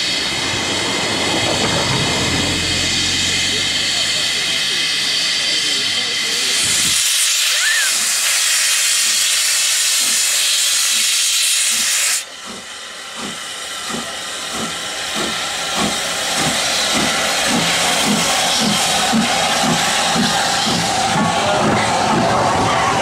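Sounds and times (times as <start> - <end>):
steam hissing: 0.0 - 23.0
steam locomotive chuffing: 0.0 - 23.0.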